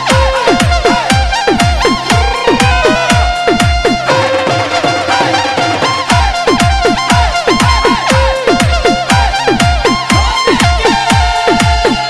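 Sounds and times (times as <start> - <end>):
electronic drum beat: 0.0 - 12.0
pitch-bending held melody: 0.0 - 12.0.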